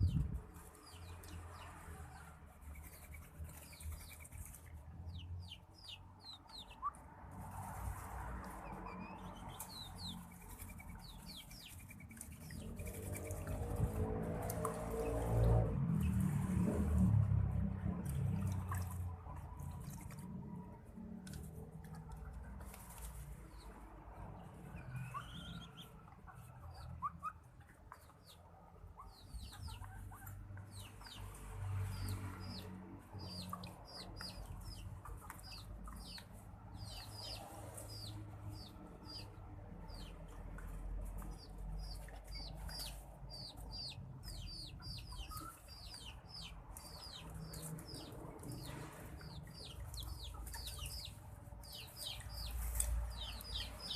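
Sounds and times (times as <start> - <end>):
birds chirping: 0.0 - 7.0, 8.5 - 14.1, 22.0 - 53.9.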